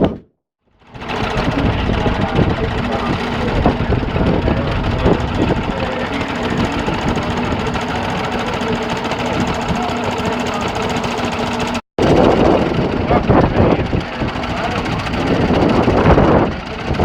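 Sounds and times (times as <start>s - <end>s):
engine running: 0.7s - 17.0s.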